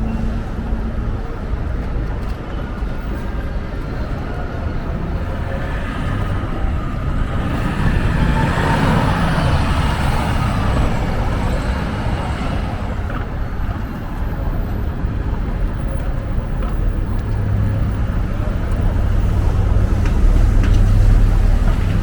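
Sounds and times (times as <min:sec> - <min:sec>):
vehicle engine and tyres: 0:00.0 - 0:22.0.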